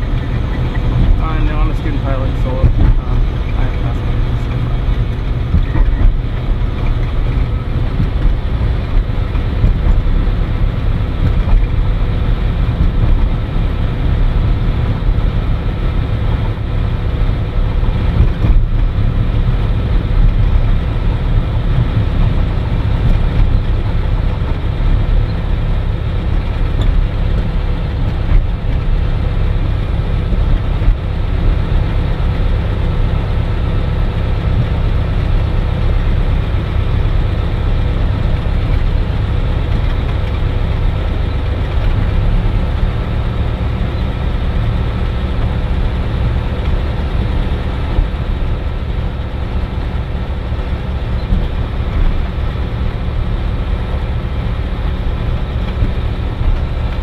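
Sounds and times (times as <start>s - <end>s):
propeller aircraft engine running: 0.0s - 57.0s.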